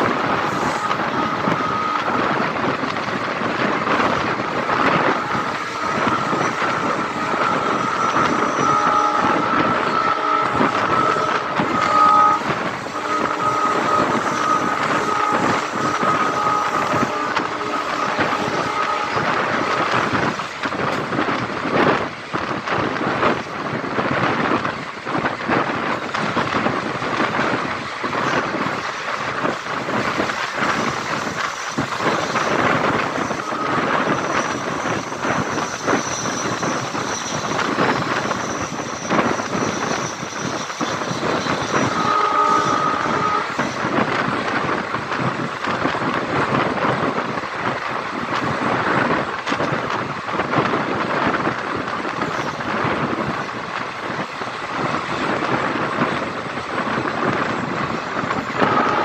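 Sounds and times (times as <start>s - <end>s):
high whine: 0.0s - 22.0s, 25.6s - 45.1s, 51.2s - 59.0s
train wheels clattering on rails: 0.0s - 59.0s.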